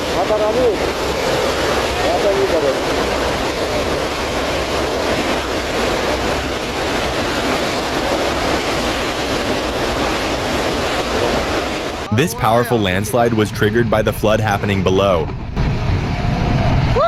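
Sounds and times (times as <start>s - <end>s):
floodwater rushing: 0.0s - 15.4s.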